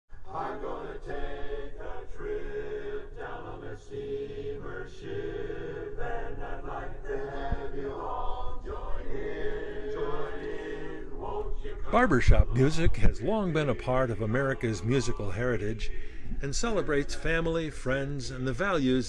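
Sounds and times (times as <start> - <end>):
men's chorus singing a cappella: 0.2 - 19.0.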